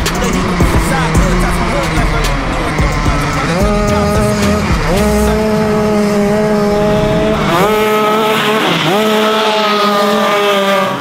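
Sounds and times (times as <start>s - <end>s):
kart engine at high revs: 0.0s - 11.0s.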